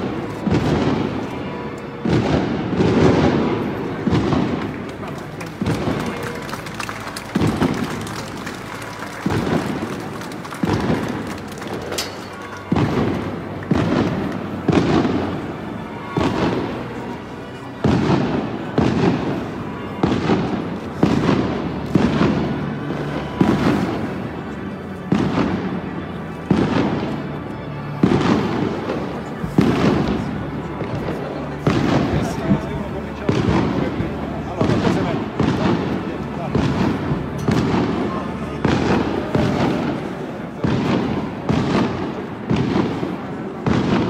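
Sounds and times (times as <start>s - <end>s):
firecrackers banging: 0.0s - 44.0s.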